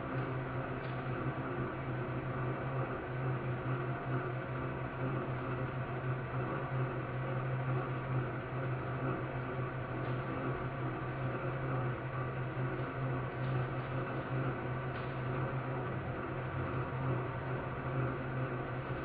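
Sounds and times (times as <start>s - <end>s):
stand mixer motor hum: 0.0s - 19.0s.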